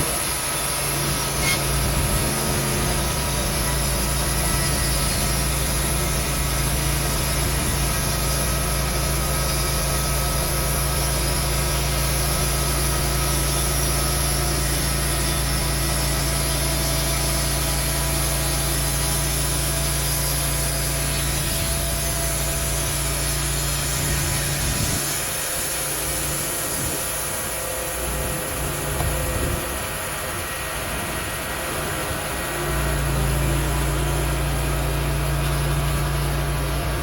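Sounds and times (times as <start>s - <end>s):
sawmill engine hum: 0.0s - 37.0s
sawmill hissing: 0.0s - 37.0s.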